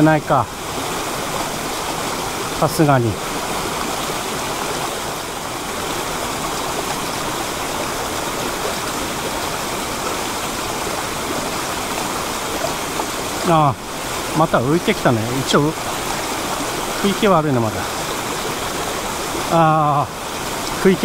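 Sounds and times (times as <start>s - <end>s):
stream pouring over waterfall: 0.0s - 21.0s.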